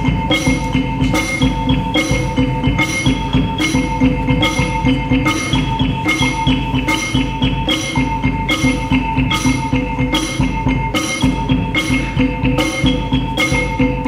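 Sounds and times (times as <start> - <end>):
percussion ensemble playing: 0.0 - 14.0.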